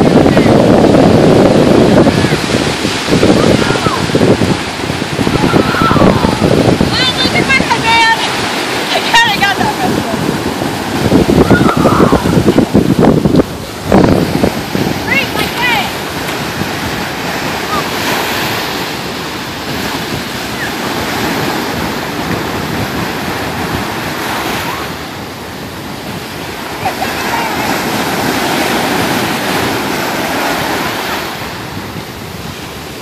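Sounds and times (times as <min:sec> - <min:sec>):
ocean surf breaking: 0:00.0 - 0:33.0.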